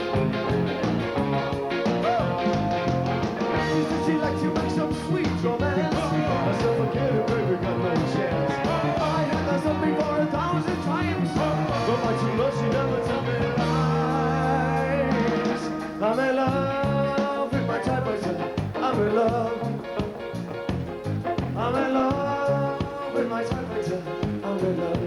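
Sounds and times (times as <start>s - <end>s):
bass guitar: 0.0s - 25.0s
drums: 0.0s - 25.0s
electric guitar: 0.0s - 25.0s
keyboards: 0.0s - 25.0s.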